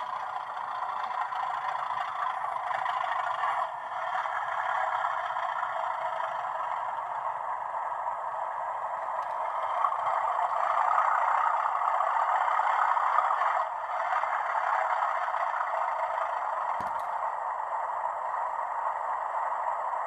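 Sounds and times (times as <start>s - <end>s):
model locomotive diesel engine sound: 0.0s - 20.0s.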